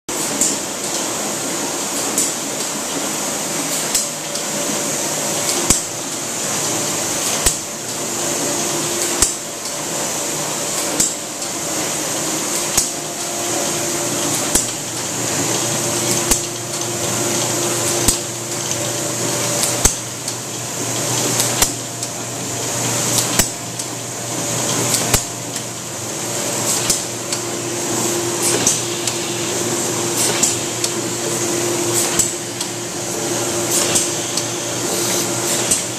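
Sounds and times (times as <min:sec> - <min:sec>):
machine whirring and hissing: 0:00.1 - 0:35.9.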